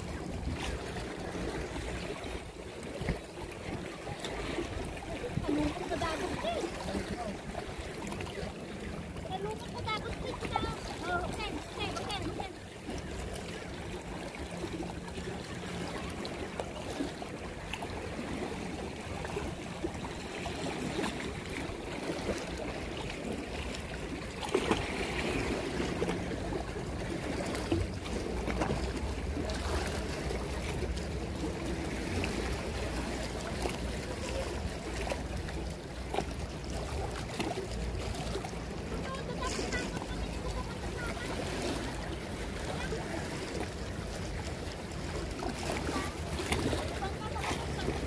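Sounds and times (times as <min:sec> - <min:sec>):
seawater lapping: 0:00.0 - 0:48.0.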